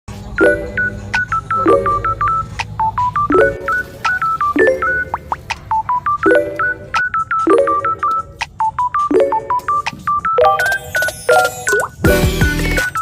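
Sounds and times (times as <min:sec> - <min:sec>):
bouncy beeping music: 0:00.2 - 0:13.0.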